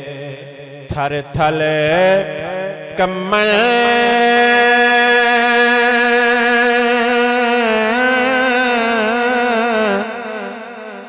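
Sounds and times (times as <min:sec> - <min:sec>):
man singing a long held note: 0:00.0 - 0:11.0.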